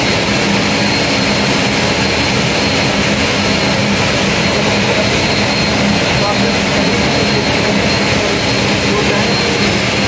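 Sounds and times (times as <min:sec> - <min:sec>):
high turbine whine: 0:00.0 - 0:10.0
turboprop engine running: 0:00.0 - 0:10.0.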